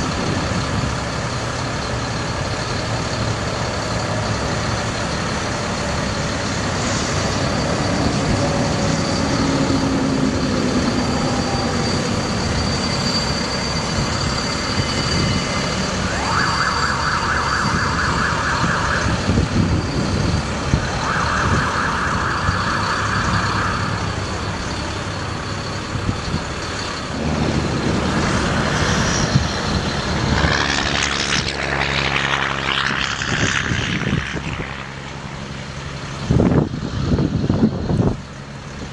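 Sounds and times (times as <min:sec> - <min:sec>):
truck engine and pump drone: 0:00.0 - 0:38.9.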